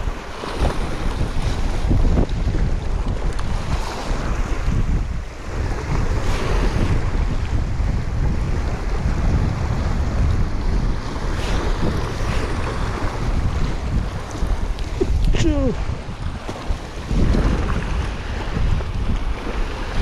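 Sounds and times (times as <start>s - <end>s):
sea waves washing: 0.0s - 20.0s
wind buffeting microphone: 0.0s - 20.0s.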